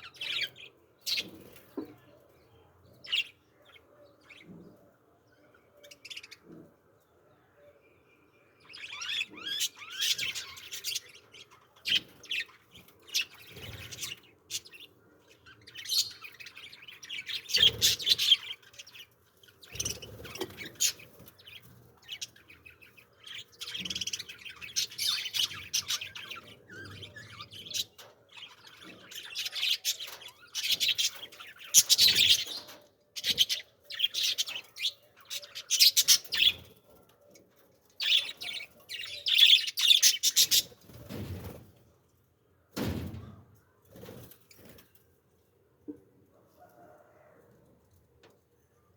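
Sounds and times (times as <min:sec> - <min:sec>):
small birds chirping: 0:00.0 - 0:41.7.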